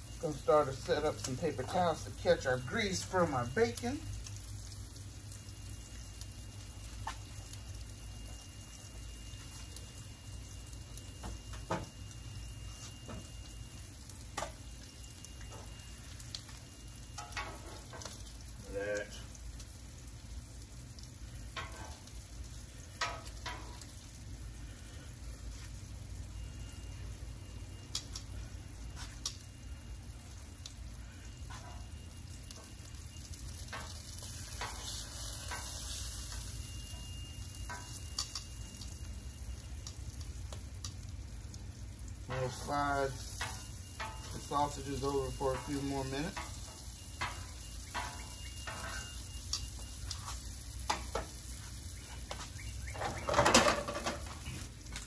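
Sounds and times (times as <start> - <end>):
meat sizzling on griddle: 0.0 - 55.0.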